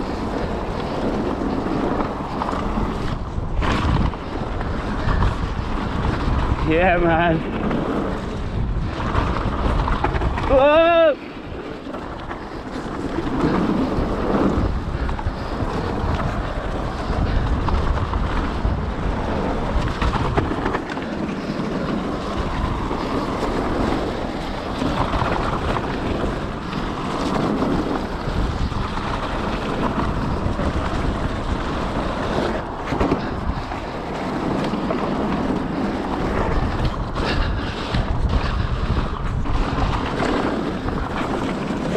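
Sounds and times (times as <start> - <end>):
bike rumbling on trail: 0.0 - 41.9
wind rushing over microphone: 0.0 - 41.9.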